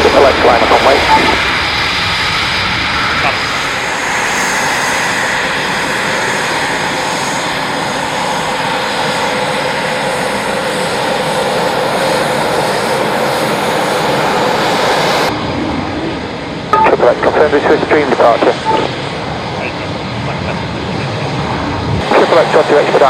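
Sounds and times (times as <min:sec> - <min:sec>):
aircraft engines running: 0:00.0 - 0:23.0.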